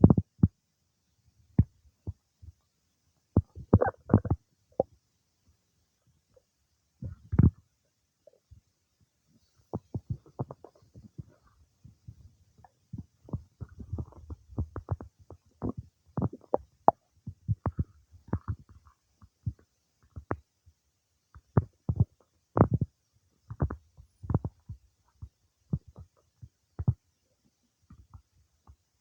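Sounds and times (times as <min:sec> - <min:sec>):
stomach gurgling and popping: 0:00.0 - 0:00.6, 0:01.5 - 0:05.0, 0:06.1 - 0:08.7, 0:09.3 - 0:29.0.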